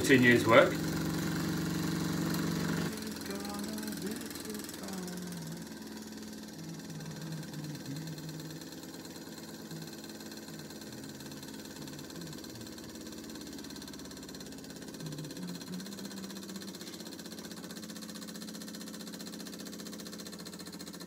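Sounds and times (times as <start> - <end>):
model steam engine chuffing: 0.0 - 21.0.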